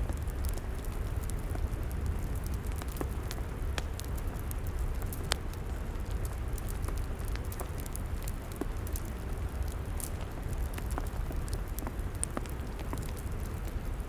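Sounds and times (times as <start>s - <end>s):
log fire crackling and popping: 0.0s - 14.0s.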